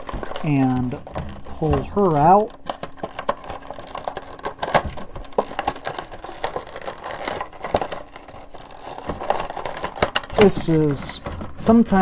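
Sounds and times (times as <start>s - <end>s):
plastic and cardboard crinkling: 0.0s - 12.0s.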